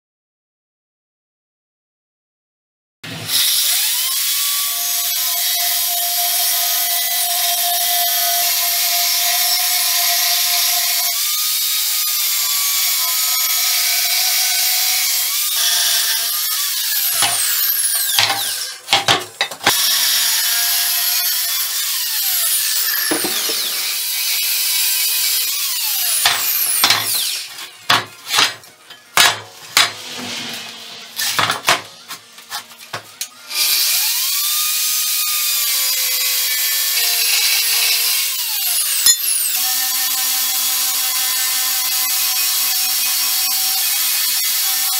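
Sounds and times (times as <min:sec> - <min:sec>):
angle grinder cutting steel: 0:03.3 - 0:44.9.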